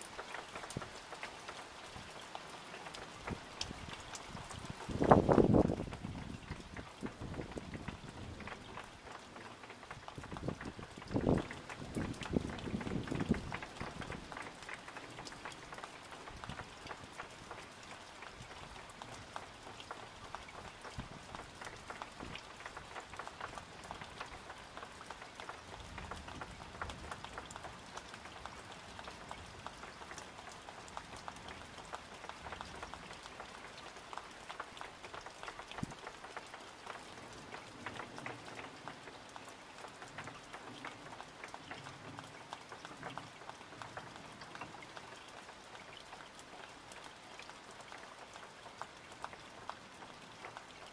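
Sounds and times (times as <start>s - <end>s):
rain pattering: 0.0s - 50.9s.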